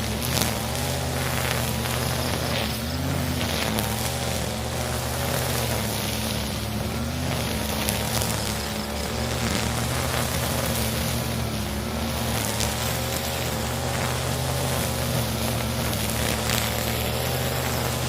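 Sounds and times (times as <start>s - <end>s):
brush cutter cutting grass: 0.0s - 18.0s.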